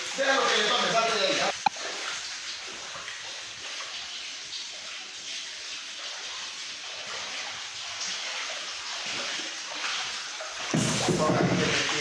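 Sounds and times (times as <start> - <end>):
steady rush of water: 0.0 - 12.0.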